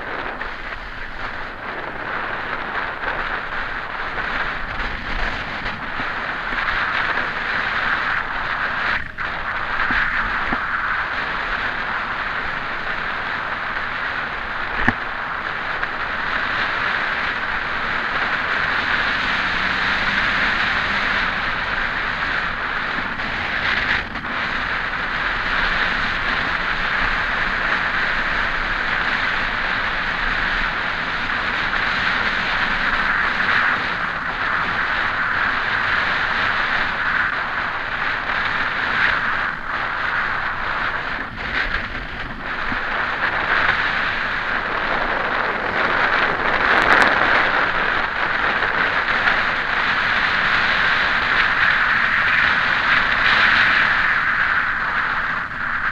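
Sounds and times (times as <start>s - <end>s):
bicycle tyres on asphalt: 0.0s - 55.9s
wind rushing over microphone: 0.0s - 55.9s.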